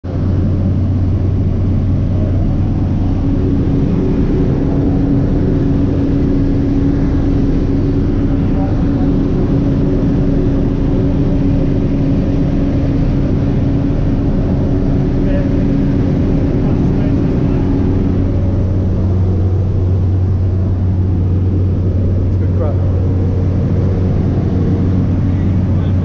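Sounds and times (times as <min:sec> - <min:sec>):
aircraft engine and propeller drone: 0:00.0 - 0:26.0
low hum: 0:00.0 - 0:26.0.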